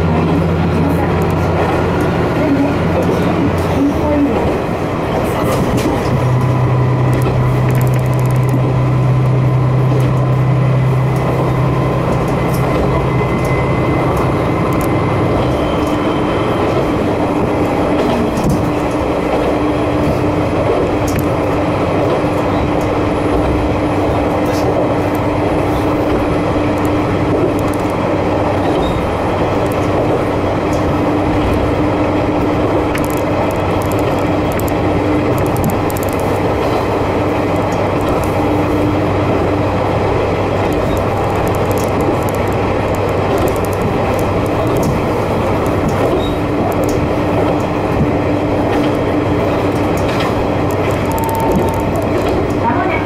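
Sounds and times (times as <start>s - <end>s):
diesel railcar engine drone: 0.0s - 53.0s
wheels rolling on rails: 0.0s - 53.0s.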